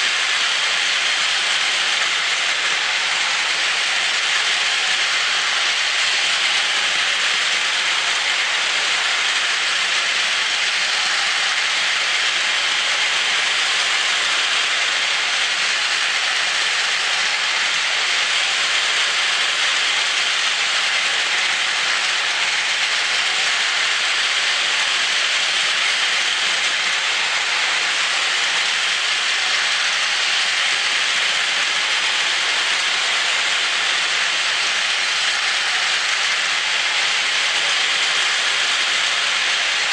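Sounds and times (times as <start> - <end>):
toy train motors whirring: 0.0 - 39.9.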